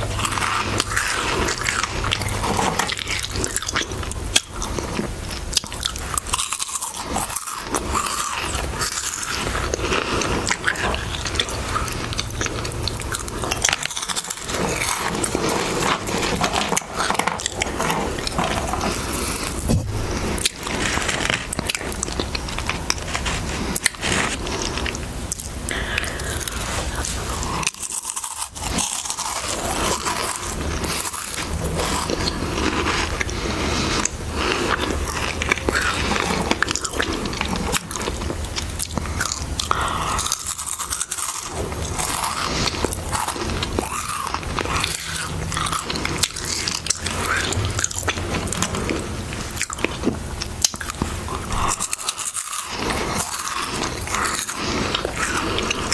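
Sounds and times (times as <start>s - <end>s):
crunching and chewing crisps: 0.0s - 55.9s.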